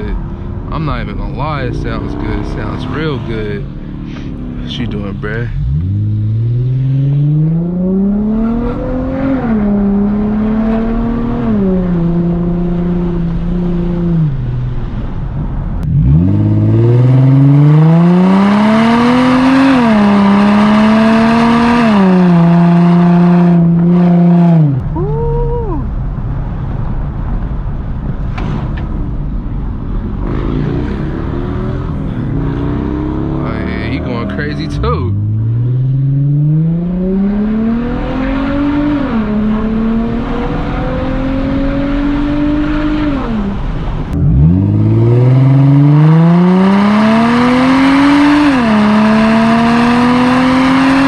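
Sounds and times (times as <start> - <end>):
car engine accelerating hard: 0.0 - 25.0, 30.0 - 51.0
car coasting road noise: 0.0 - 51.0.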